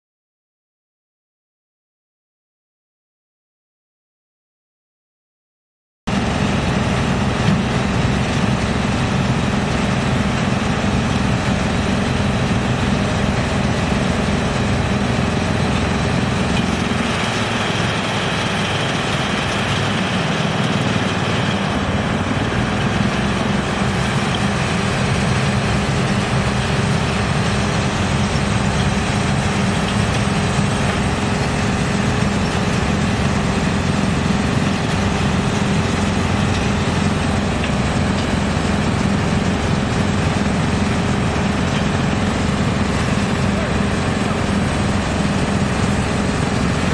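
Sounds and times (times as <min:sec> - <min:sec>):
excavator engine running: 0:06.1 - 0:46.9
wood chipper running: 0:06.1 - 0:46.9.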